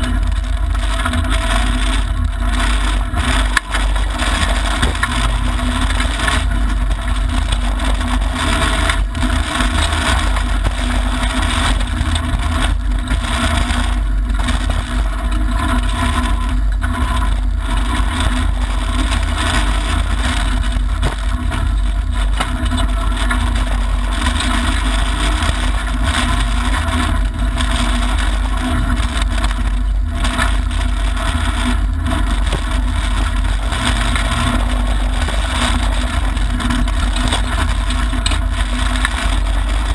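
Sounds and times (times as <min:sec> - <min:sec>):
gravel road noise: 0:00.0 - 0:39.9
rally car engine running hard: 0:00.0 - 0:39.9.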